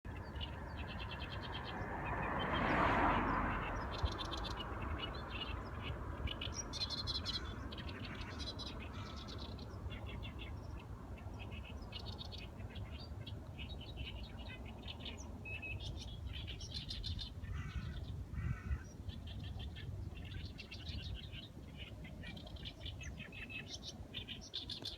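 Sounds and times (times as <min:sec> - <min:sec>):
small birds chirping: 0:00.1 - 0:24.9.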